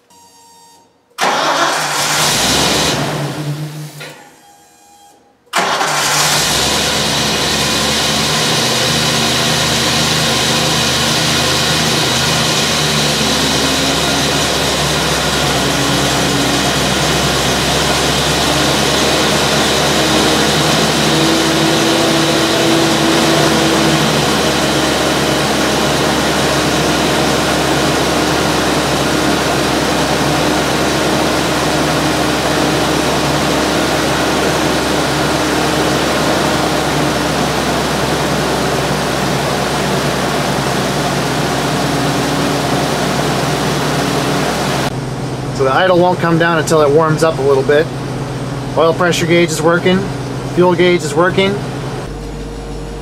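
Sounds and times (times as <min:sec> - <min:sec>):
engine fast idle: 0:01.2 - 0:04.1, 0:05.6 - 0:53.0
truck engine cranking and starting: 0:01.2 - 0:04.4, 0:05.5 - 0:53.0.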